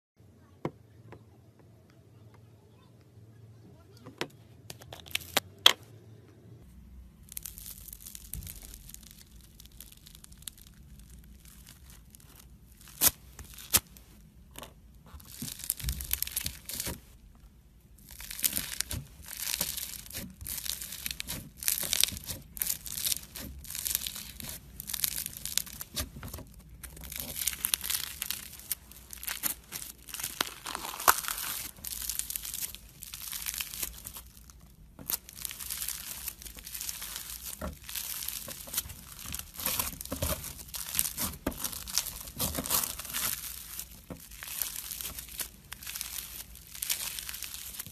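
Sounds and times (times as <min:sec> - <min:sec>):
foam slime crackling: 0:07.2 - 0:14.3, 0:15.0 - 0:17.3, 0:17.9 - 0:47.9.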